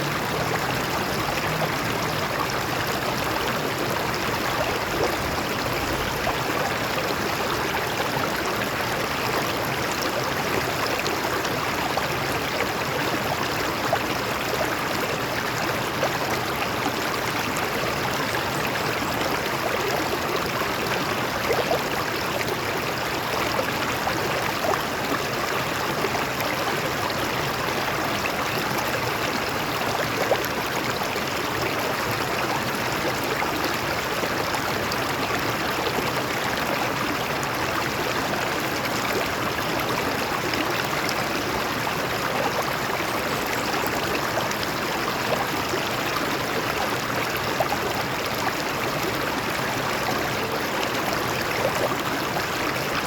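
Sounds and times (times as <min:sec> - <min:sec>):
stream water flowing over rocks: 0:00.0 - 0:53.0.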